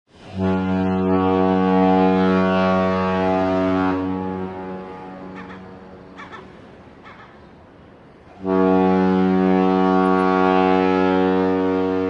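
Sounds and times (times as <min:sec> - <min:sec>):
deep boat horn blast: 0:00.1 - 0:06.2, 0:08.4 - 0:12.0.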